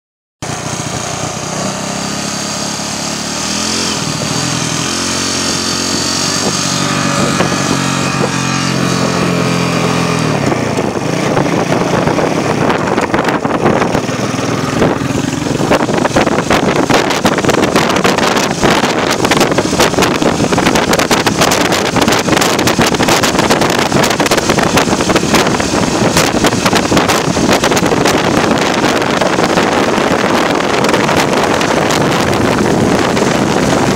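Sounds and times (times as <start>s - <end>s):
motorbike engine running: 0.4s - 33.9s
wind noise on microphone: 0.4s - 33.9s.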